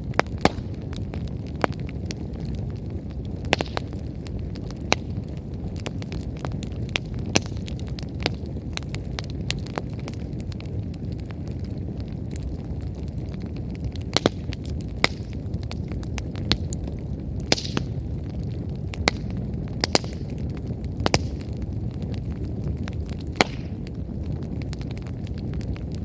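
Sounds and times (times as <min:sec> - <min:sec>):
faint fire crackles: 0:00.0 - 0:26.0
fire low rumble: 0:00.0 - 0:26.0
firewood pops: 0:00.1 - 0:11.2, 0:12.0 - 0:25.9.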